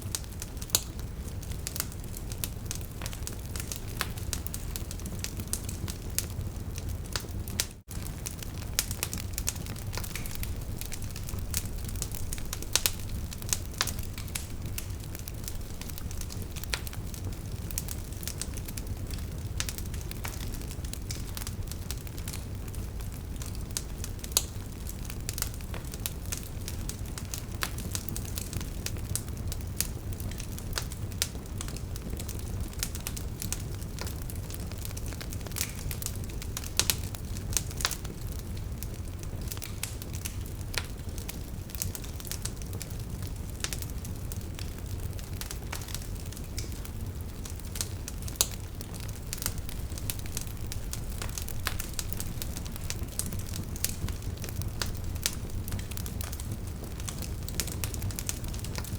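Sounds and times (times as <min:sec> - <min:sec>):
burning logs crackling: 0:00.0 - 0:58.9
flames rumbling: 0:00.0 - 0:58.9.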